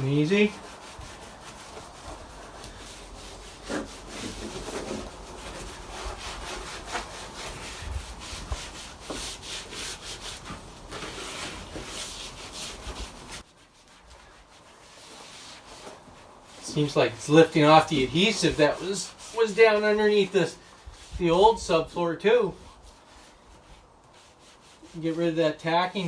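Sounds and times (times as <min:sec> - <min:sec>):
paper towel scrubbing a floor: 0:00.0 - 0:26.0.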